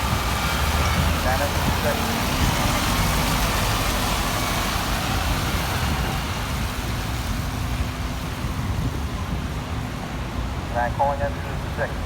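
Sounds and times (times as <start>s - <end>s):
city street noise: 0.0s - 12.0s
vehicle engines idling: 0.0s - 12.0s.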